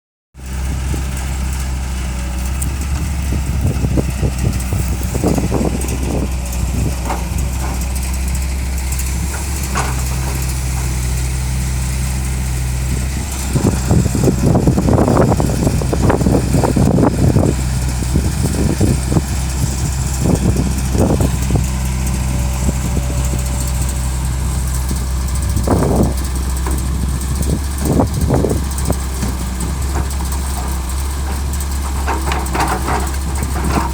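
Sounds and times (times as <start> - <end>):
heavy diesel machinery droning: 0.4 - 33.9
manure crunching and thudding: 0.6 - 33.9.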